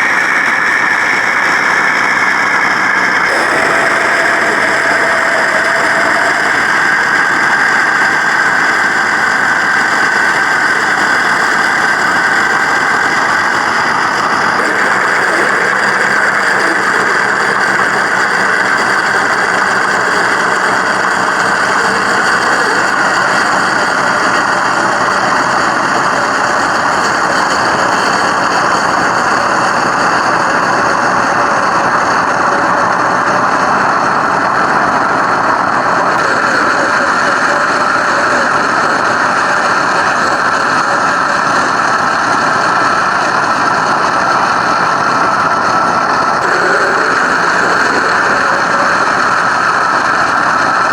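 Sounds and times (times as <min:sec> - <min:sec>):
simulated engine from small speaker: 0:00.0 - 0:50.9.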